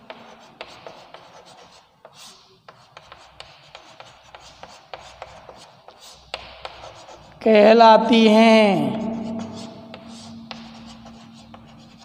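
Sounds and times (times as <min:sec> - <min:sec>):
chalk writing on chalkboard: 0:00.0 - 0:07.7, 0:08.9 - 0:12.0.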